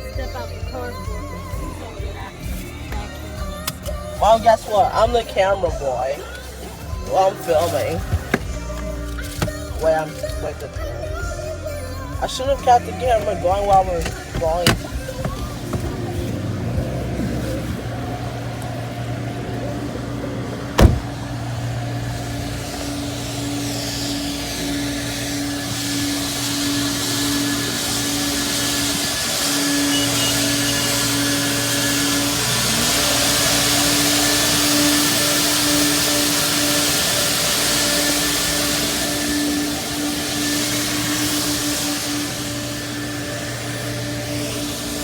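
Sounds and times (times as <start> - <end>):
car engine idling: 0.0 - 45.0
hissing rush: 0.0 - 45.0.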